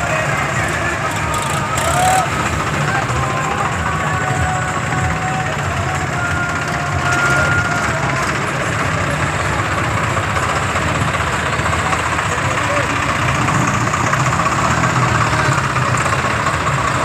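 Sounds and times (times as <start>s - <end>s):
tractor engines running: 0.0s - 17.0s
voices in background: 0.0s - 17.0s.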